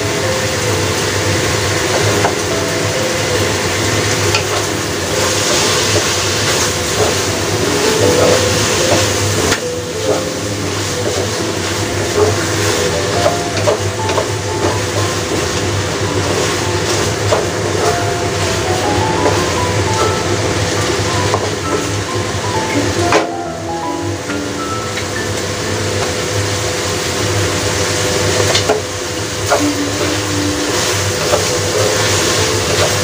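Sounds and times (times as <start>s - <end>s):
food sizzling in a wok: 0.0s - 33.0s.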